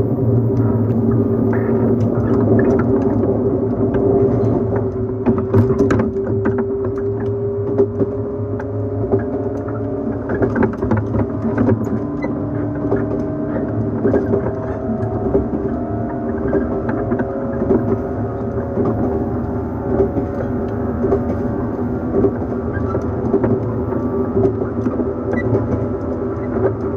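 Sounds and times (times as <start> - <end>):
electric traction motor hum: 0.0 - 5.4, 8.2 - 26.9
running gear rumble: 0.0 - 26.9
wheels clicking on rails: 0.0 - 26.9.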